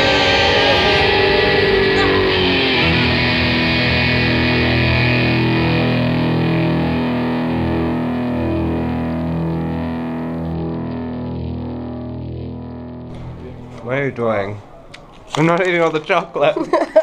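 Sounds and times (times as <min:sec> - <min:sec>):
distorted electric guitar music: 0:00.0 - 0:14.4.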